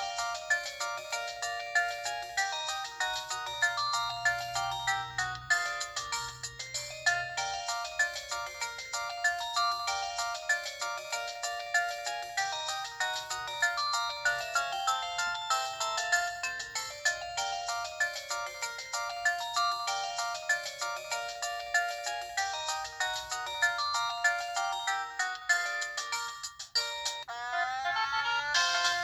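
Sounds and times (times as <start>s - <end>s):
phone ringtone melody: 0.0s - 29.0s.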